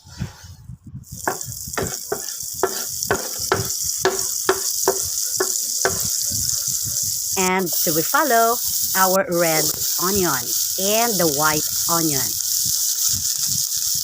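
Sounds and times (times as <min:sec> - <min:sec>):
butter sizzling in a frying pan: 0:01.1 - 0:14.0
spatula scraping a pan: 0:01.2 - 0:13.7.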